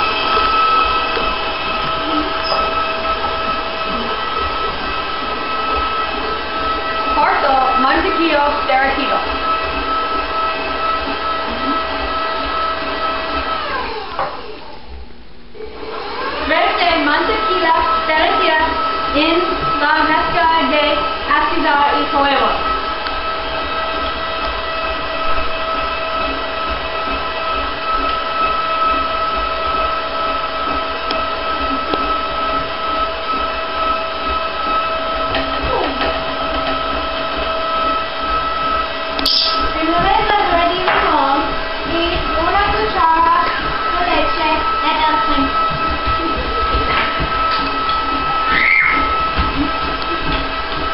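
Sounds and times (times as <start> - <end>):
stand mixer whining: 0.0 - 50.9.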